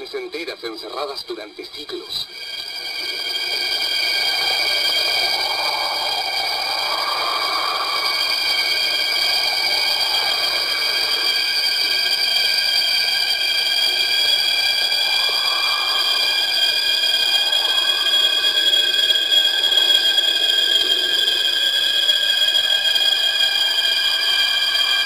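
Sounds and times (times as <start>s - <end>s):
steady high synth tones: 1.6s - 23.0s.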